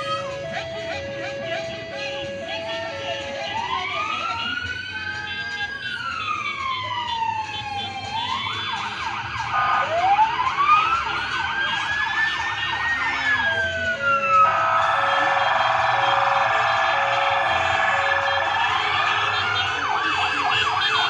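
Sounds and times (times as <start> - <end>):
rapid warble siren: 0.0 - 21.0
vehicle siren wailing: 0.0 - 21.0
yelping siren: 0.0 - 21.0.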